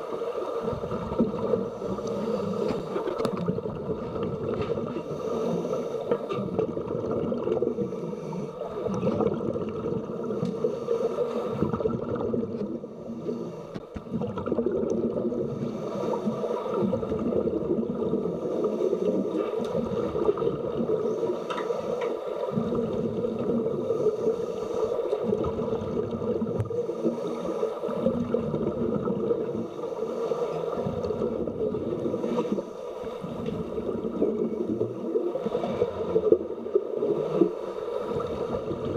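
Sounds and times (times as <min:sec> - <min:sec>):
underwater hum: 0:00.0 - 0:38.9
gurgle of exhaled bubbles: 0:00.6 - 0:05.0, 0:06.2 - 0:08.0, 0:08.6 - 0:10.5, 0:11.4 - 0:21.4, 0:22.5 - 0:24.2, 0:25.1 - 0:27.2, 0:27.9 - 0:29.8, 0:30.7 - 0:32.6, 0:33.2 - 0:38.9.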